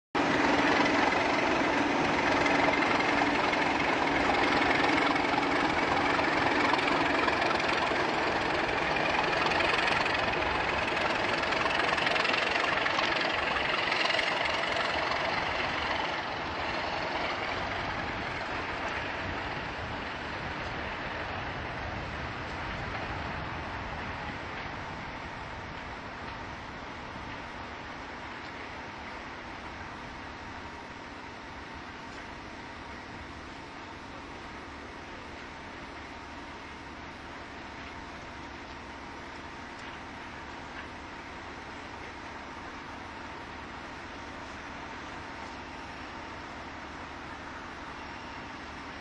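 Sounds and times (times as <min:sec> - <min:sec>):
diesel locomotives whining: 0:00.2 - 0:49.0.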